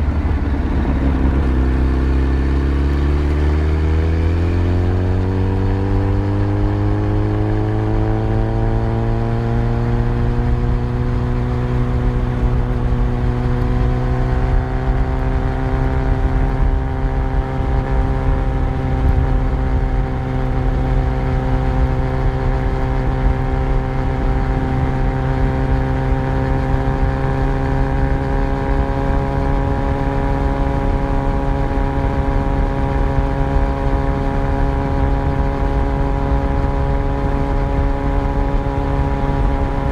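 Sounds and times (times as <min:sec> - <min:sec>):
low wind: 0:00.0 - 0:39.9
motorcycle engine accelerating: 0:00.0 - 0:39.9
road rumble: 0:00.0 - 0:39.9.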